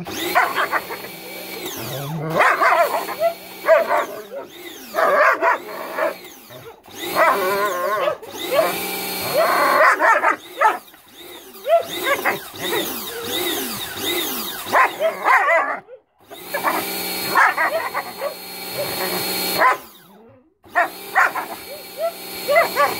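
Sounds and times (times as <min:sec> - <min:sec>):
pressure washer motor and spray hiss: 0:00.0 - 0:15.0, 0:16.3 - 0:20.0, 0:20.7 - 0:22.9
dog barking and whining: 0:00.0 - 0:22.9.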